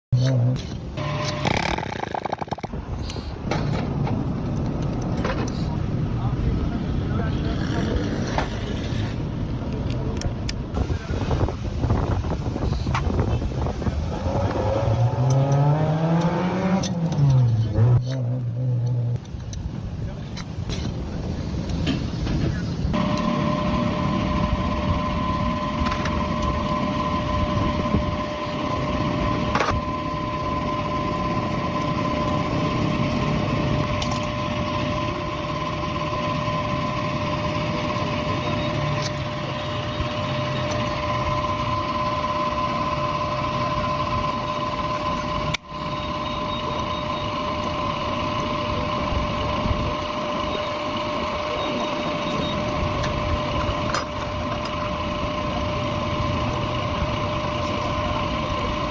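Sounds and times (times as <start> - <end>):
motor running with high whine: 0.2 - 3.8, 10.7 - 21.8, 22.8 - 58.9.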